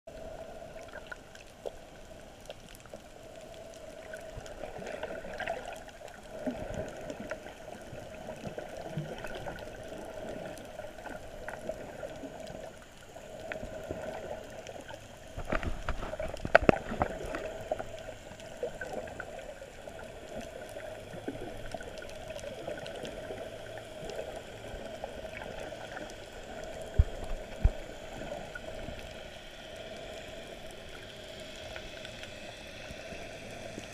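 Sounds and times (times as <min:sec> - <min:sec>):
muffled underwater hum: 0:00.1 - 0:33.9
small underwater clicks: 0:00.1 - 0:33.9.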